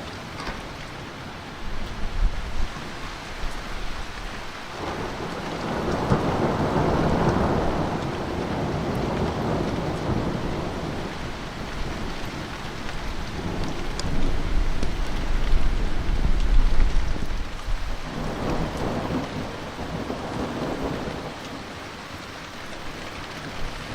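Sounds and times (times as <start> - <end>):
steady rain: 0.0 - 23.9
thunder rumbling: 1.6 - 22.0.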